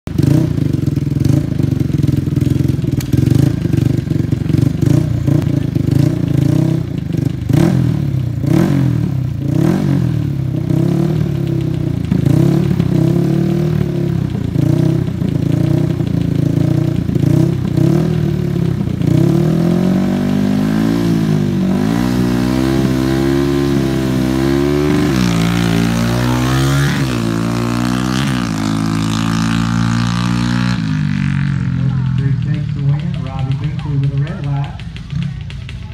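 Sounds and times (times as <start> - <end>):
quad engine revving: 0.1 - 35.9.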